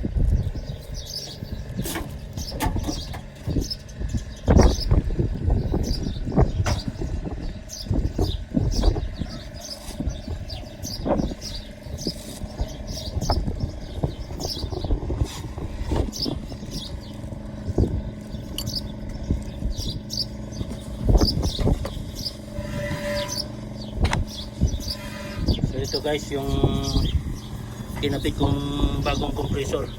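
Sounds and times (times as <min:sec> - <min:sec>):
steady low hum: 0:00.0 - 0:29.9
knocks and scrapes on machinery: 0:01.6 - 0:28.6.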